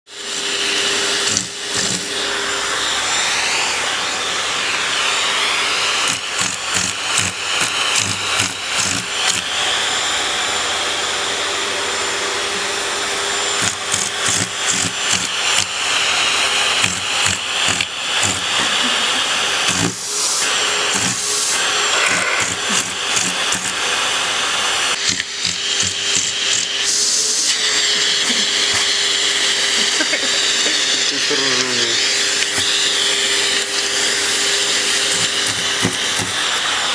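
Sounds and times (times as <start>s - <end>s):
vacuum cleaner running: 0.1s - 36.9s.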